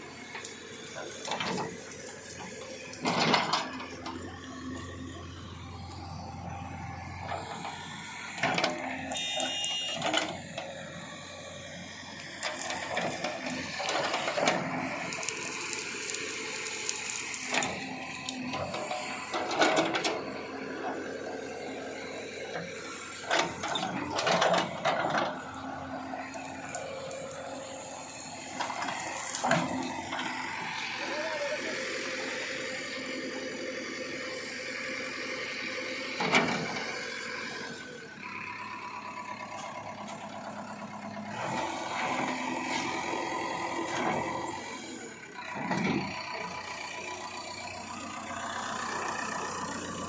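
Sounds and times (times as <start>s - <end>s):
backhoe engine running: 0.0s - 50.0s.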